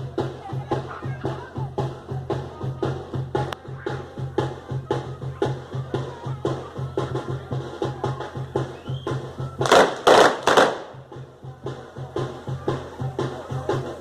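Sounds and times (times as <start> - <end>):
drum beating steadily: 0.0 - 14.0
traditional dance music: 0.0 - 14.0.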